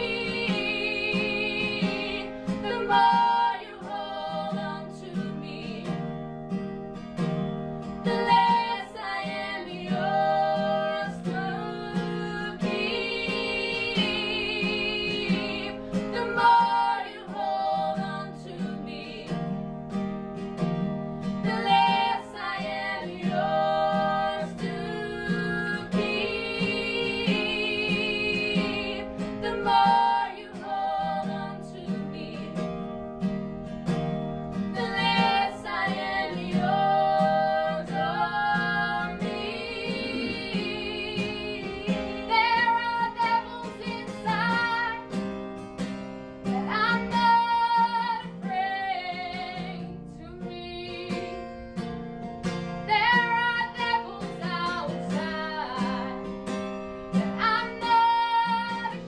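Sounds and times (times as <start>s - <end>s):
woman singing: 0.0s - 6.2s, 7.9s - 19.7s, 21.2s - 33.3s, 34.5s - 45.3s, 46.4s - 51.9s, 52.8s - 59.0s
strummed acoustic guitar: 0.0s - 59.0s.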